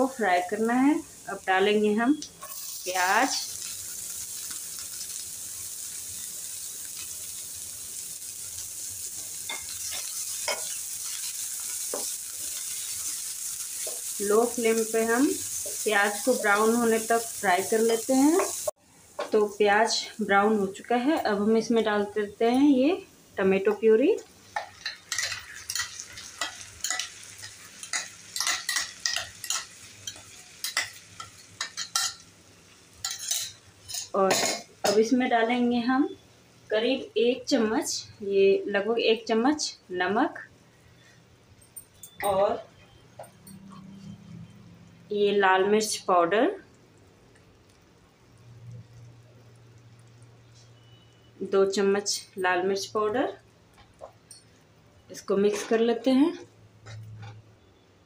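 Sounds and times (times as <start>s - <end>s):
onion sizzling in frying pan: 0.0s - 41.2s, 44.1s - 57.8s.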